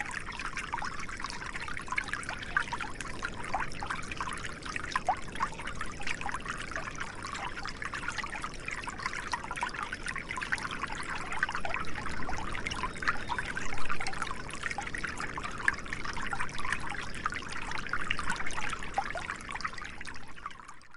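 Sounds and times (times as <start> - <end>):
stream trickling over rocks: 0.0 - 20.9.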